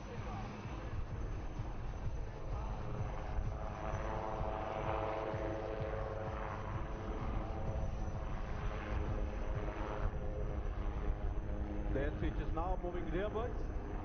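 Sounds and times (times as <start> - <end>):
helicopter flying past: 0.0 - 14.0.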